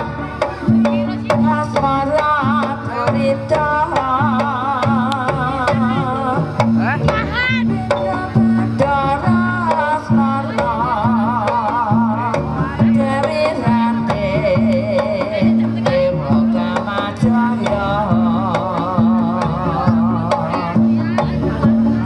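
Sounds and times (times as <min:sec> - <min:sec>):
drums beating: 0:00.0 - 0:22.0.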